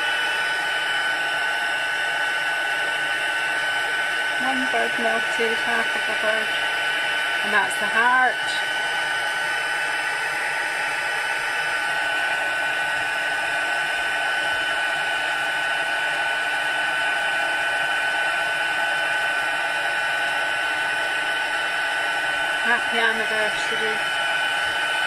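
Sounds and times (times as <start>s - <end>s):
fan whine: 0.0s - 25.0s
heat gun blowing air: 0.0s - 25.0s.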